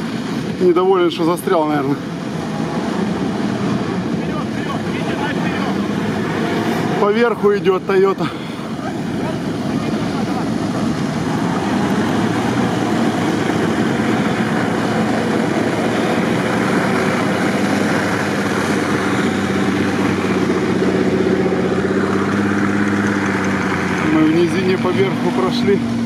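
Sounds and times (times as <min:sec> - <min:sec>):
dense noisy wash: 0:00.0 - 0:26.0
off-road engines under load: 0:00.0 - 0:26.0.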